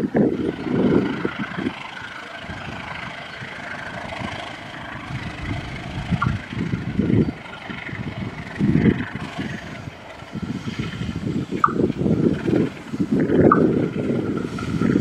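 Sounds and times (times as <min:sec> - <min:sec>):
train diesel engine running: 0:00.0 - 0:15.0
wind buffeting microphone: 0:00.0 - 0:15.0.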